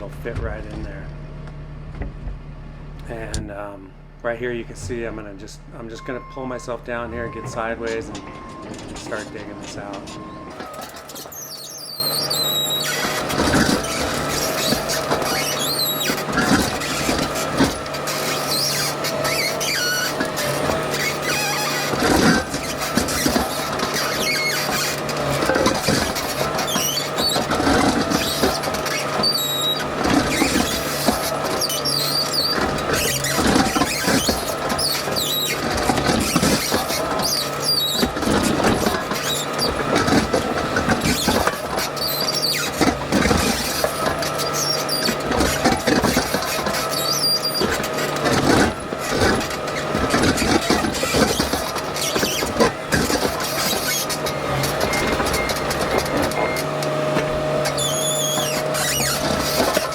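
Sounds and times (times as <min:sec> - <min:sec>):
digging machine engine: 0:00.0 - 0:59.9
machine whine: 0:04.7 - 0:59.9
bucket scraping gravel and rock: 0:10.6 - 0:59.9.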